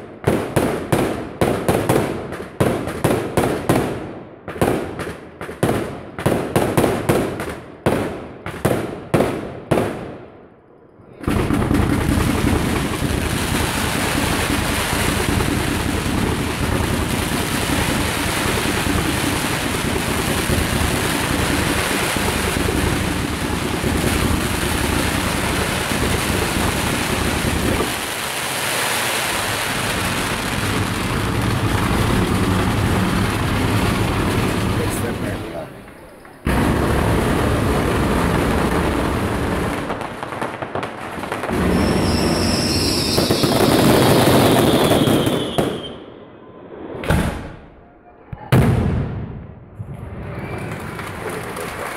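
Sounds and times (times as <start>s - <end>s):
dense crackle of firecrackers: 0.0s - 10.2s, 11.1s - 46.0s, 48.6s - 51.9s
loud firework bangs: 0.0s - 10.4s, 11.2s - 46.1s, 47.0s - 51.9s.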